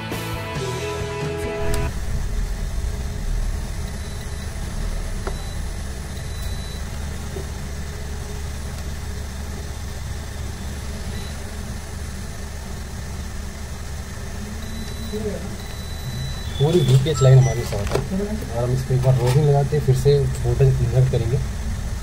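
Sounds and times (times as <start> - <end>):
low mechanical hum: 1.6 - 22.0.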